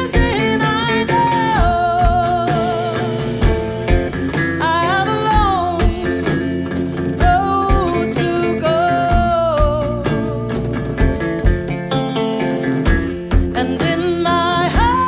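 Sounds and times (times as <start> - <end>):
woman singing blues: 0.0 - 12.0, 13.0 - 15.0
electric guitar: 0.0 - 15.0
steady bass drum beat: 0.0 - 15.0.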